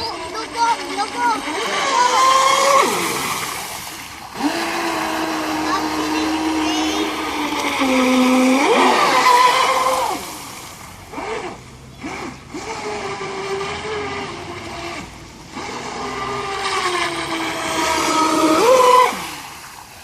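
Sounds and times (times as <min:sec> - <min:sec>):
electric motor whining: 0:00.0 - 0:19.6.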